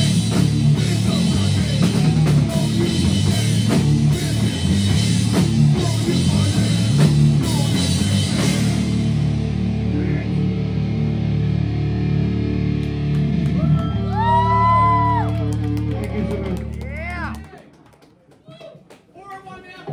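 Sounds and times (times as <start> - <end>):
distorted electric guitars: 0.0 - 17.1
bass guitar: 0.0 - 17.5
drums: 0.0 - 17.5, 18.5 - 19.9.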